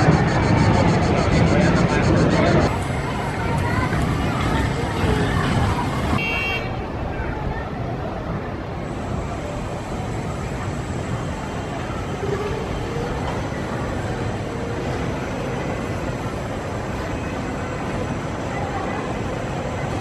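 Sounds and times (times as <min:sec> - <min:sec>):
faint voices: 0:00.0 - 0:20.0
roller coaster rumbling on track: 0:00.0 - 0:20.0.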